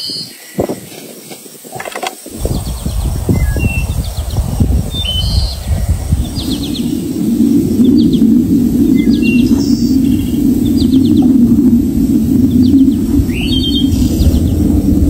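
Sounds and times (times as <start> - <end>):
songbirds chirping: 0.0 - 15.0
loud low rumbling: 2.3 - 15.0.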